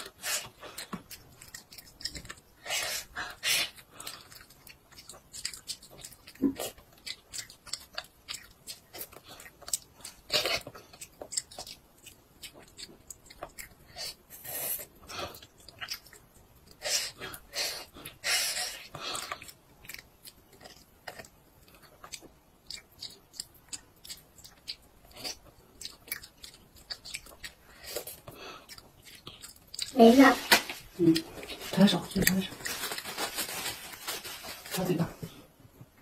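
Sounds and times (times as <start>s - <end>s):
toddler chewing meat: 0.0s - 33.6s.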